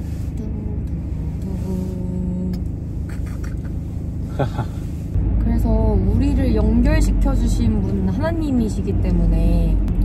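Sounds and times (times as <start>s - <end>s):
car rumble from inside cabin: 0.0s - 10.0s.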